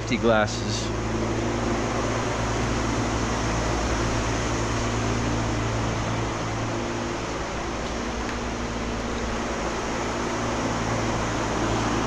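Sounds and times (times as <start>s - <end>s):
fans blowing air: 0.0s - 12.0s.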